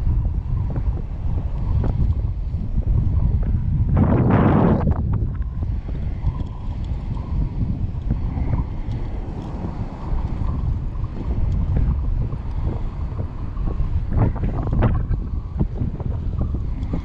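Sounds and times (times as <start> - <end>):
shallow surf washing: 0.0 - 17.0
wind buffeting microphone: 0.0 - 17.0.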